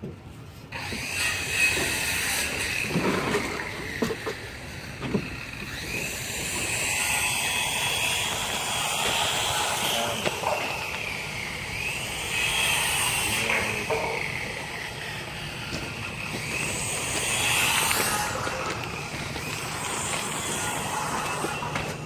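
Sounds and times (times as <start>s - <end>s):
construction machinery whining: 0.4s - 22.0s.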